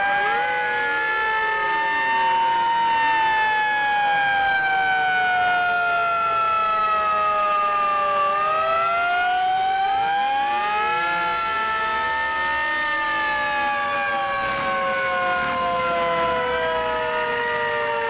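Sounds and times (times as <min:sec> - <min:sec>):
fire engine sirens wailing: 0:00.0 - 0:18.0.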